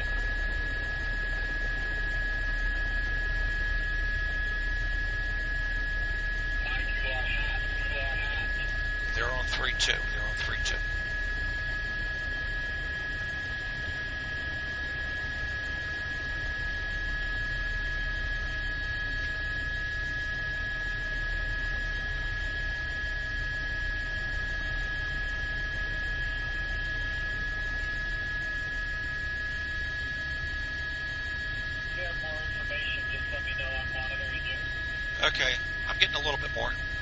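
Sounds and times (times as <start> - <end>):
constant high-pitched tone: 0.0 - 37.0
line hum and hiss: 0.0 - 37.0.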